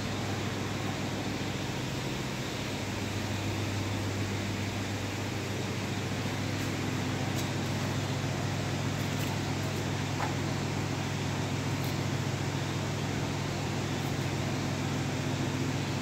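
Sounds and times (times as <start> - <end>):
conveyor motor hum: 0.0 - 16.0.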